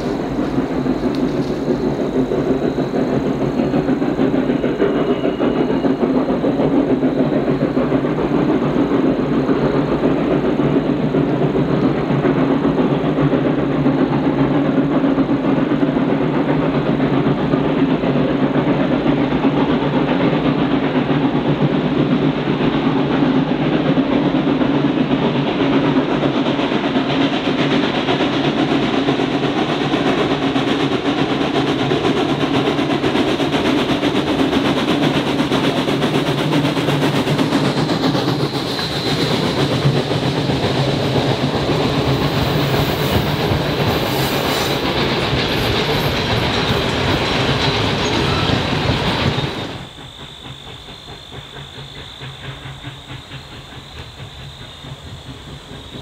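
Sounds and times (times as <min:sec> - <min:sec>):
steam locomotive working: 0:00.0 - 0:56.0.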